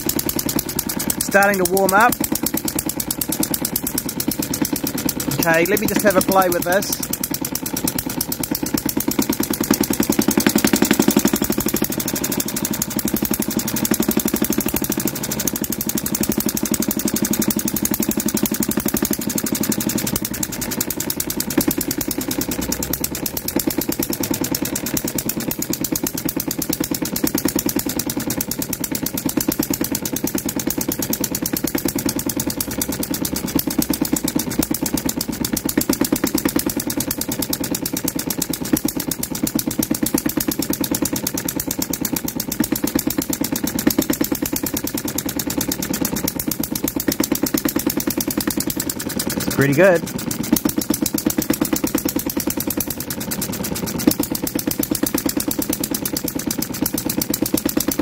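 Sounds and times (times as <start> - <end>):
model diesel engine running: 0.0 - 58.0.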